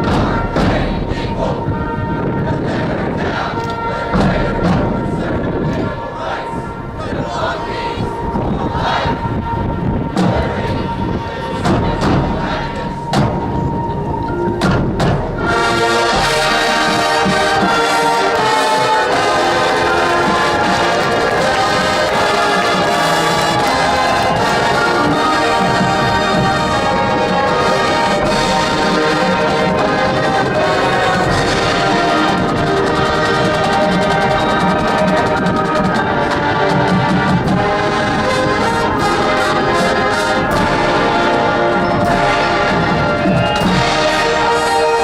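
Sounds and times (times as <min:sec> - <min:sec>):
marching band playing: 0:00.0 - 0:45.0.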